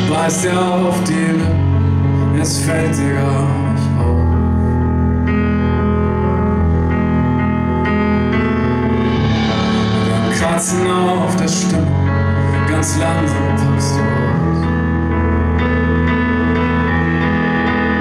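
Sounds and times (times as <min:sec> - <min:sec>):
bass: 0:00.0 - 0:18.0
keyboard chords: 0:00.0 - 0:18.0.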